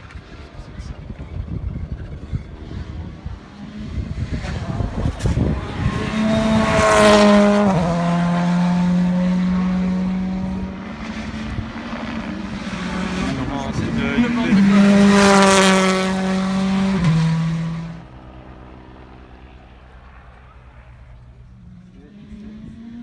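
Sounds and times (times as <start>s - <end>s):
rally car passing by: 2.0s - 23.0s.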